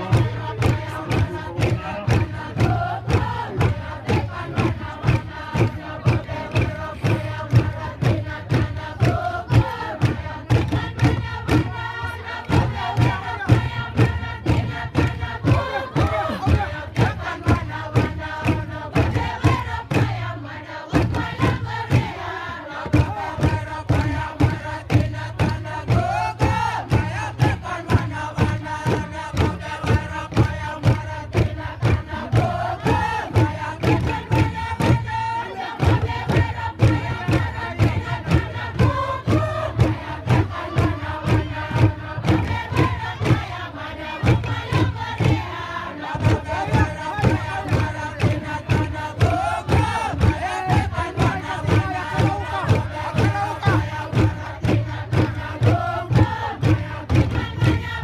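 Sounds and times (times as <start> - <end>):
group chanting: 0.0 - 58.0
struck percussion beat: 0.0 - 58.0.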